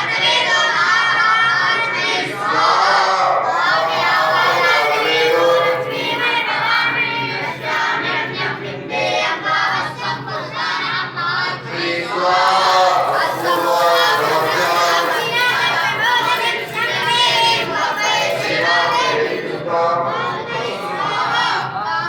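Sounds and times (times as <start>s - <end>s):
boys chanting in unison: 0.0s - 22.0s.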